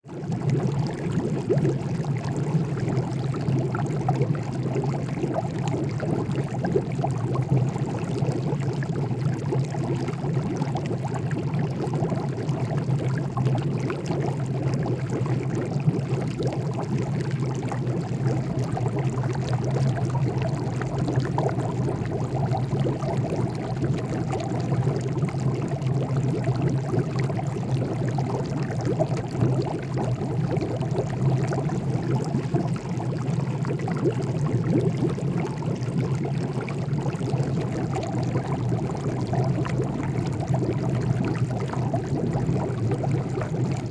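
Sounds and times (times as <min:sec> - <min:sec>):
water boiling: 0:00.1 - 0:43.9.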